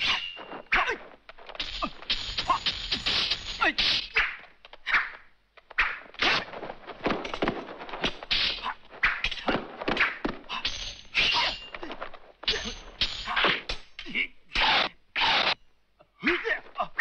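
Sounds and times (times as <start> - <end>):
sword strikes and swishes: 0.0 - 14.0, 14.6 - 15.6.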